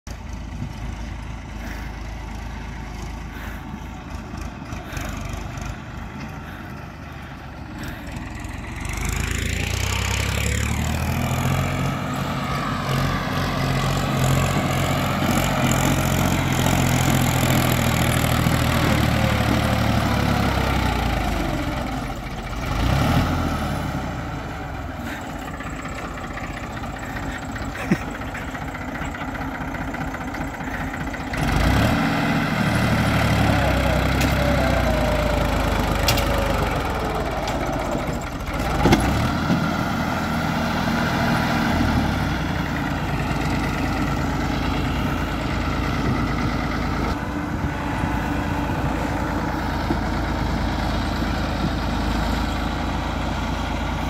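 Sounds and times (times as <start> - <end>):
tractor diesel engine running: 0.1 - 54.0.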